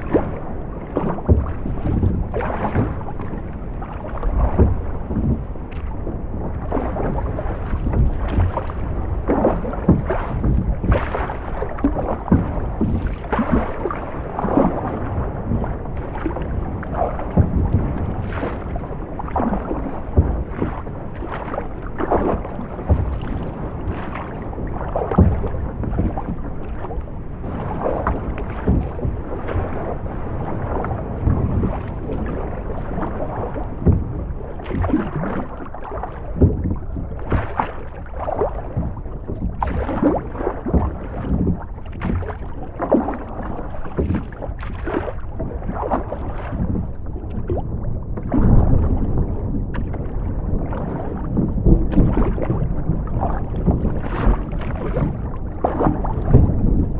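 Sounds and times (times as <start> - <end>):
deep rumble: 0.0 - 56.9
waves slapping boat hull: 0.0 - 56.9.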